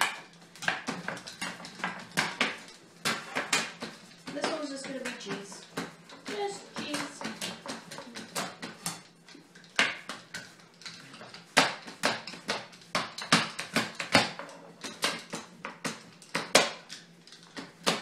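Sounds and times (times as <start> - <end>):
pastry roller knocking on metal pan: 0.0 - 9.1, 11.3 - 16.9.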